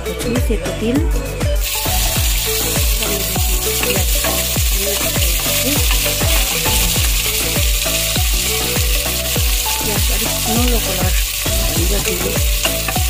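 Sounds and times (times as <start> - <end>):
background music with steady beat: 0.0 - 13.0
ladle stirring in pot: 1.6 - 13.0
onions sizzling in oil: 1.6 - 13.0.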